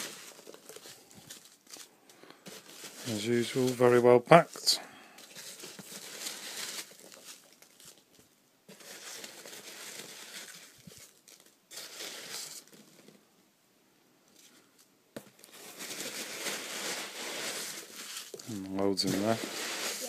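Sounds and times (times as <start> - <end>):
packing peanuts rustling: 0.0 - 13.3, 14.3 - 20.0.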